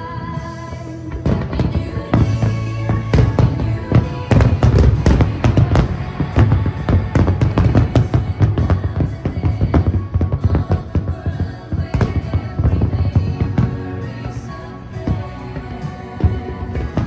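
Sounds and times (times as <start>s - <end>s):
fireworks bangs and crackling: 0.0s - 17.0s
music playing: 0.0s - 17.0s.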